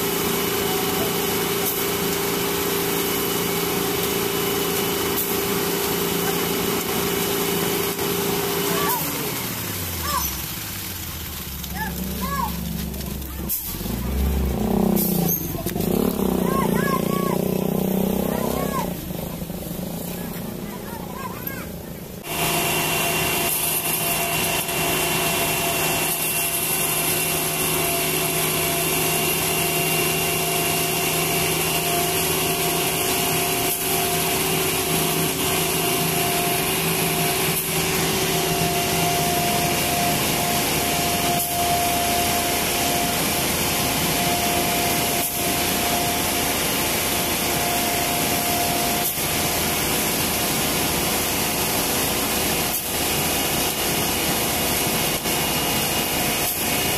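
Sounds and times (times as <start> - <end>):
concrete mixer truck running: 0.0 - 56.9
wet concrete pouring down chute: 0.0 - 56.9.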